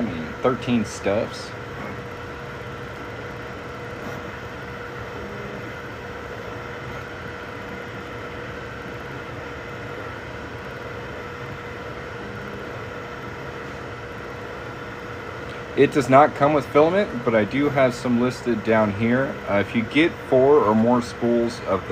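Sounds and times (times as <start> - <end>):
printer fans and motors whirring: 0.0 - 21.9.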